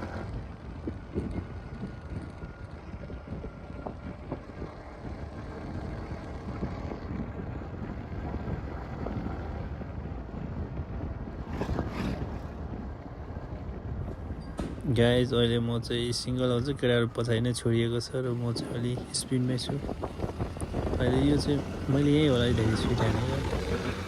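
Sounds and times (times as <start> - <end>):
motorcycle low rumble: 0.0 - 24.0
wind rushing over microphone: 0.0 - 24.0.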